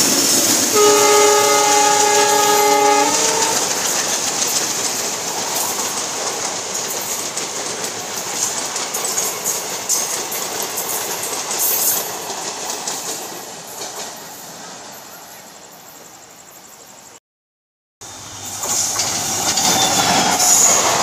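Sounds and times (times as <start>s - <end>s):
train wheels clattering on rail joints: 0.0s - 14.8s, 18.4s - 21.0s
passing train rushing noise: 0.0s - 17.2s, 18.0s - 21.0s.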